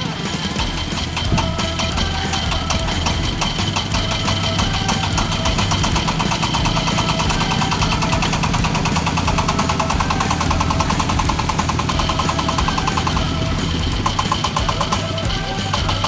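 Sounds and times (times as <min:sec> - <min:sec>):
diesel concrete mixer engine clattering: 0:00.0 - 0:16.0.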